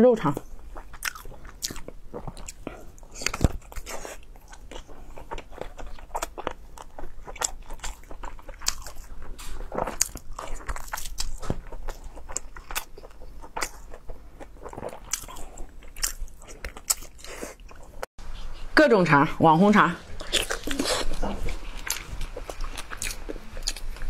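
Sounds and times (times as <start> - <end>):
biting and chewing: 0.5 - 18.1, 20.1 - 24.0.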